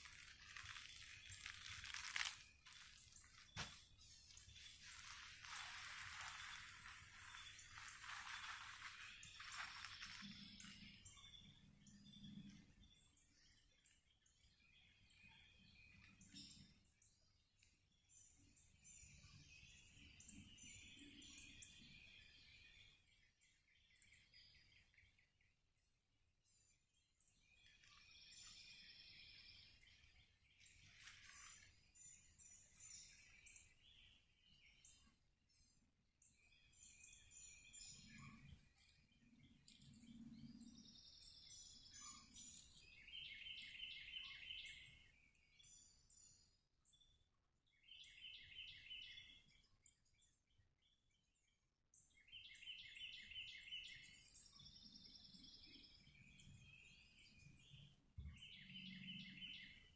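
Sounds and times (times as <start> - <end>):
birds singing: 0.0 - 51.1, 52.0 - 59.9.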